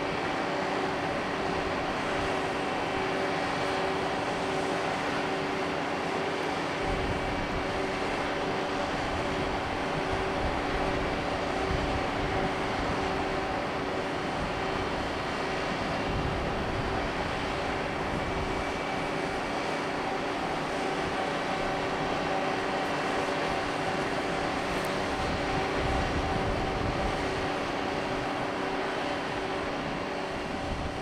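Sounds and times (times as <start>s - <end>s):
ship machinery hum: 0.0s - 31.0s.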